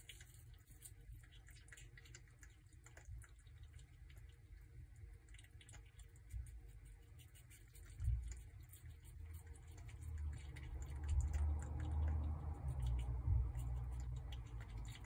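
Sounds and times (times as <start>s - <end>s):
prairie dog chewing: 0.0s - 15.0s.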